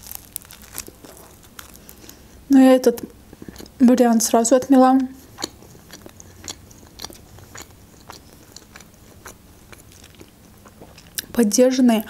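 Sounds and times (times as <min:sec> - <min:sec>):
person chewing food: 0:00.0 - 0:11.4.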